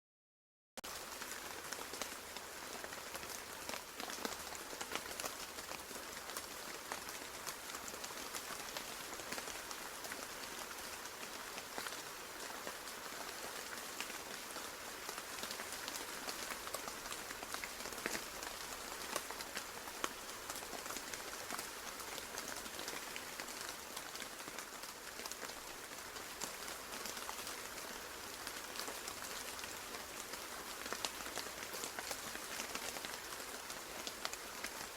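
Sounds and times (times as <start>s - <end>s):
steady rain falling: 0.8s - 34.9s.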